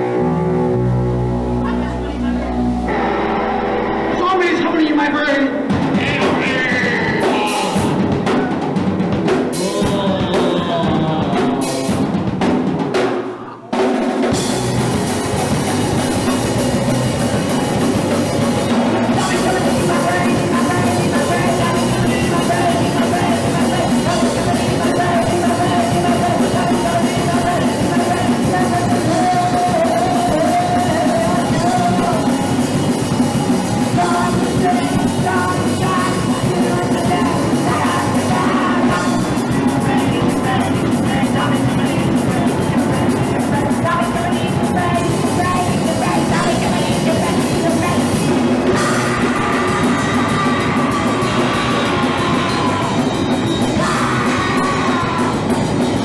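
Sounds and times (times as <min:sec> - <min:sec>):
drum kit: 0:00.0 - 0:56.0
punk rock band playing: 0:00.0 - 0:56.0.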